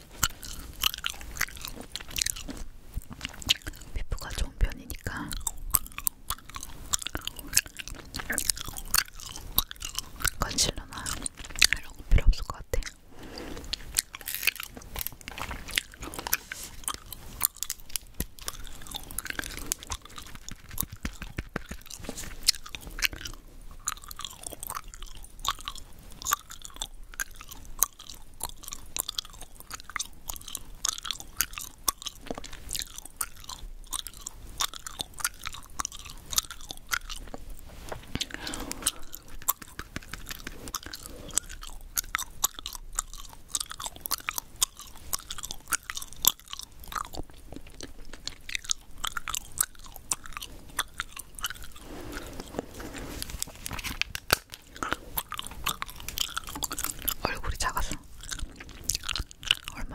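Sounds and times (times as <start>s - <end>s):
gum chewing clicks and smacks: 0.0s - 59.9s.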